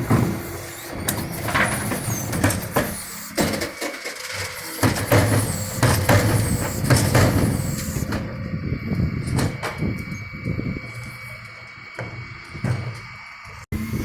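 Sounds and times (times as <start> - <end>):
knocks and clatters of bins: 0.0 - 13.7
truck engine running: 0.0 - 14.0.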